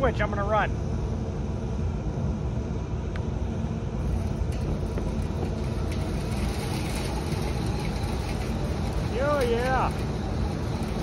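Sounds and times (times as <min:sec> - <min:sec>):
exhaust fan rumbling: 0:00.0 - 0:11.0.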